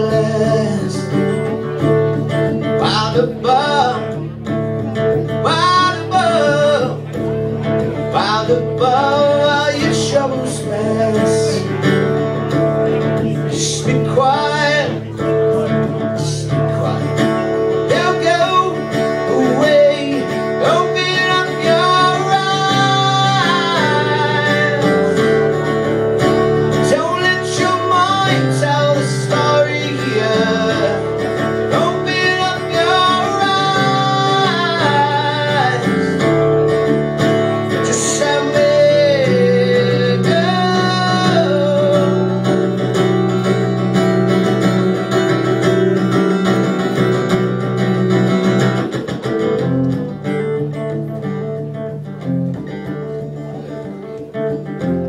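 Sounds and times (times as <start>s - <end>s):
man singing: 0.0s - 48.7s
acoustic guitar: 0.0s - 55.0s.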